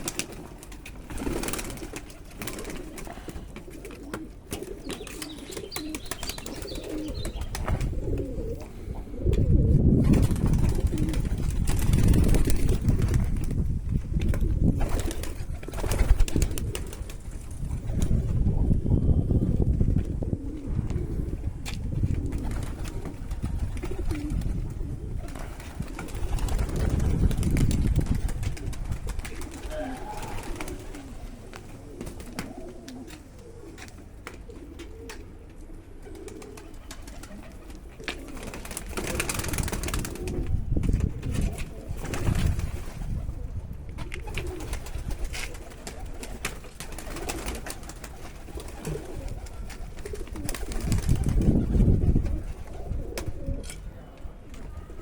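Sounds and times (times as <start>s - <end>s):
pigeons cooing: 0.0s - 13.0s, 14.4s - 55.0s.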